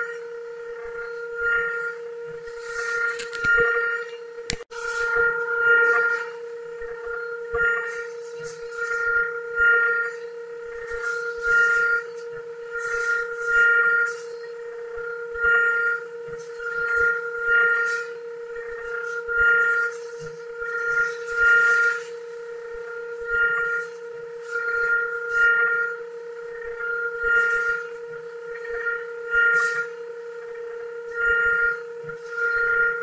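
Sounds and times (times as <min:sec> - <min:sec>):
cnc router spindle whine: 0:00.0 - 0:33.0.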